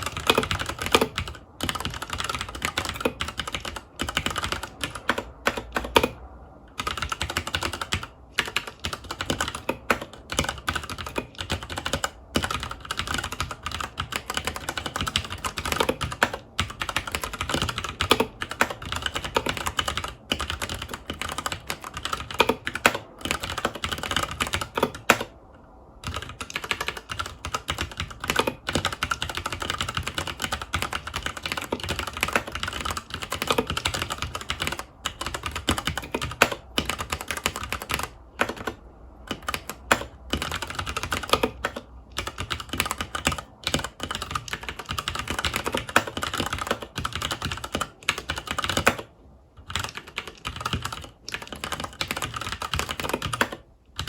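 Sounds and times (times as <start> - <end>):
fast typing on mechanical keyboard: 0.0 - 25.4, 26.0 - 54.0.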